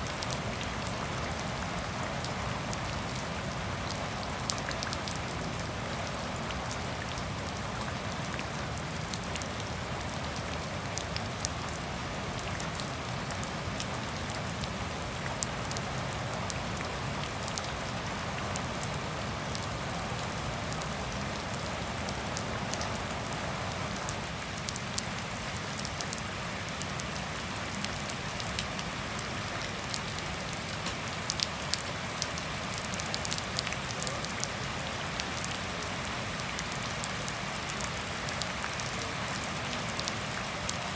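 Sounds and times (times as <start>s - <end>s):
rain falling on pavement: 0.0s - 40.9s.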